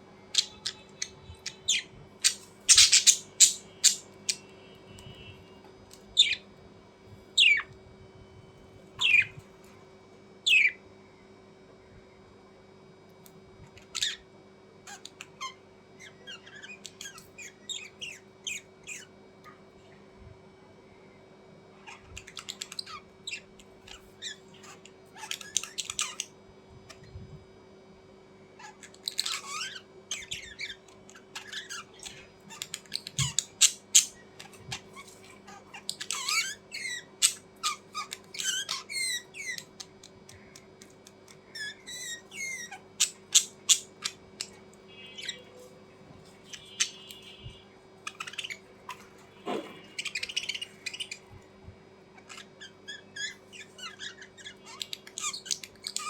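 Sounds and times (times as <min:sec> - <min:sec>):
faint low hum: 0:00.0 - 0:56.0
small birds chirping: 0:00.1 - 0:06.5, 0:07.3 - 0:07.7, 0:09.0 - 0:09.5, 0:10.4 - 0:10.8, 0:13.6 - 0:20.0, 0:21.8 - 0:27.2, 0:28.6 - 0:56.0.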